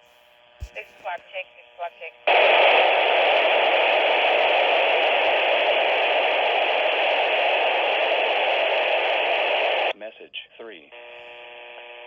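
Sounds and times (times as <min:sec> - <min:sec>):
radio static from pager speaker: 0:00.0 - 0:12.0.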